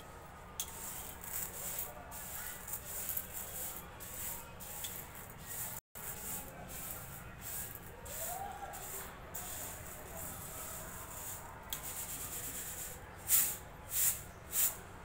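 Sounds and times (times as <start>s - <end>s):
lentils rustling on a steel plate: 0.6s - 14.8s.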